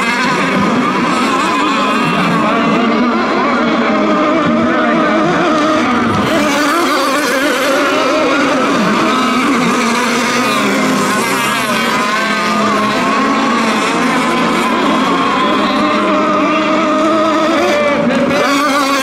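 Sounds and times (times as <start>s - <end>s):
model boat engines revving: 0.0s - 19.0s.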